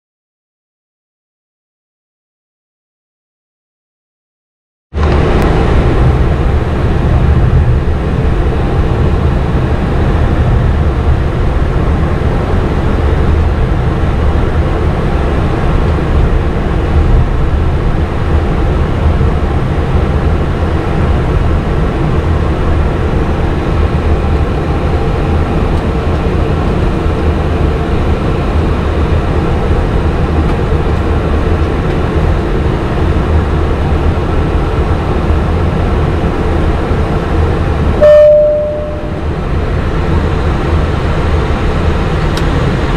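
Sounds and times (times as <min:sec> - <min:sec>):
deep rumble with steady tones: 0:05.0 - 0:42.9
jet engines running at low power: 0:05.0 - 0:42.9.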